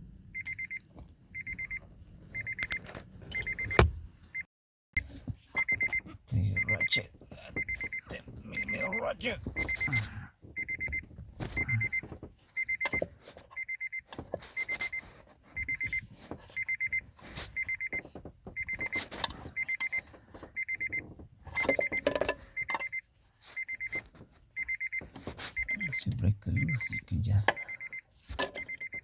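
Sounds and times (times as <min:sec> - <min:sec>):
car warning chime beeping: 0:00.3 - 0:01.8, 0:02.4 - 0:29.0.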